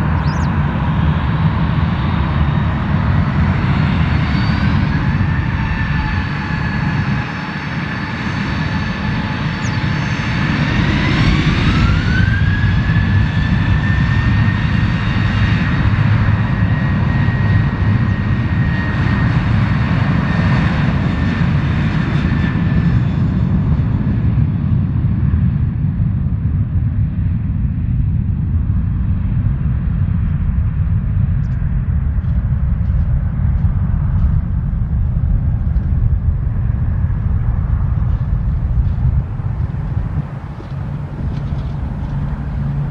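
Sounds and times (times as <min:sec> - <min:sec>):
jet engine whine: 0:00.0 - 0:42.9
jet engines rumbling: 0:00.0 - 0:42.9.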